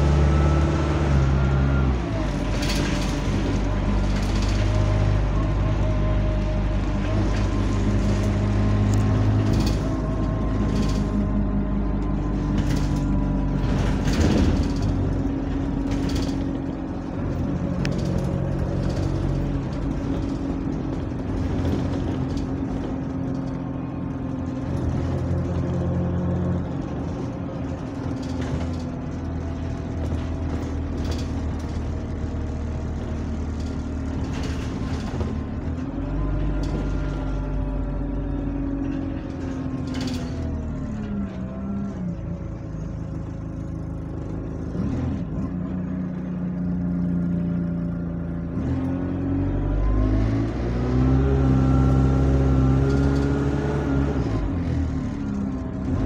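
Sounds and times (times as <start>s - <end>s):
bus engine whining: 0.0s - 56.0s.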